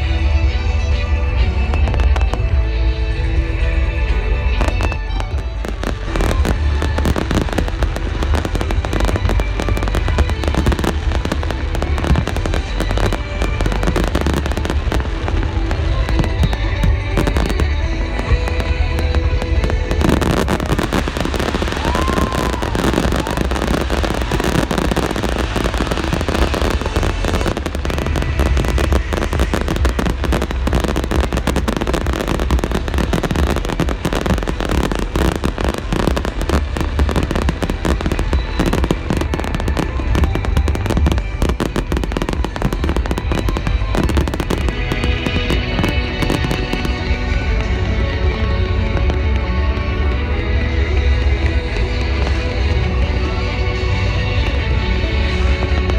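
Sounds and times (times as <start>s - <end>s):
background music: 0.0s - 55.9s
fireworks bangs and crackling: 0.0s - 55.9s.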